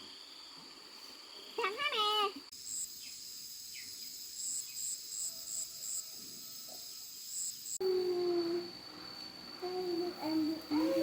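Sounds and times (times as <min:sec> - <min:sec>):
crickets and insects chirring: 0:00.0 - 0:11.0
insect pulsing chirps: 0:00.0 - 0:11.0.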